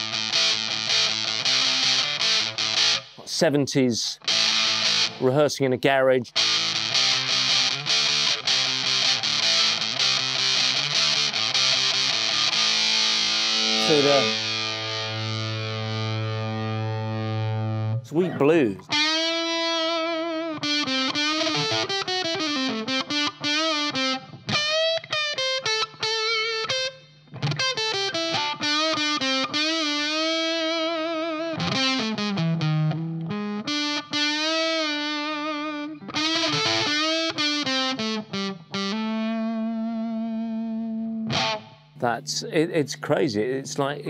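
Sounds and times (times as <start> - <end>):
fuzz electric guitar blues lead: 0.0 - 3.3, 4.2 - 5.3, 6.3 - 44.0.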